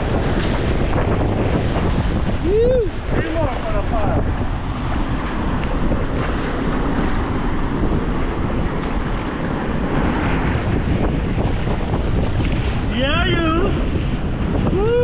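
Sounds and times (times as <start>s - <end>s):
surf washing over rocks: 0.0s - 15.0s
wind rumbling on microphone: 0.0s - 15.0s.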